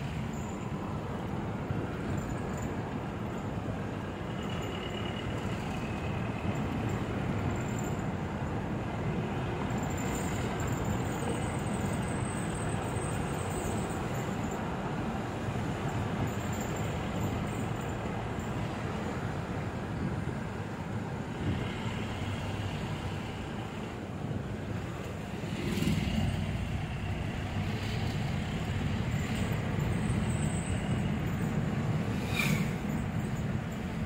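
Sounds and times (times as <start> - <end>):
car engine and road noise: 0.0 - 34.0.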